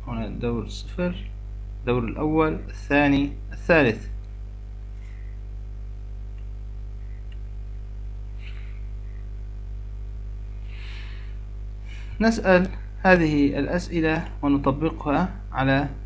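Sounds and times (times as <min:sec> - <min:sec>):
soft hiss: 0:00.0 - 0:15.2
electrical hum and buzz: 0:00.0 - 0:16.0.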